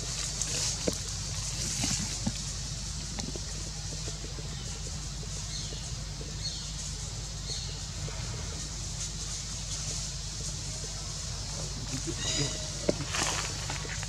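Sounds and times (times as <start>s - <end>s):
dry leaves rustling: 0.0s - 14.0s.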